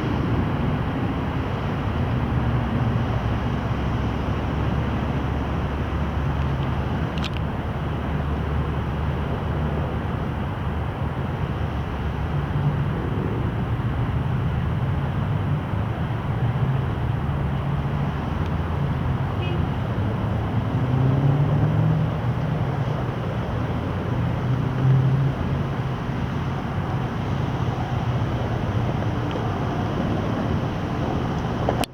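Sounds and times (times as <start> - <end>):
jet engines rumbling in flight: 0.0 - 31.9.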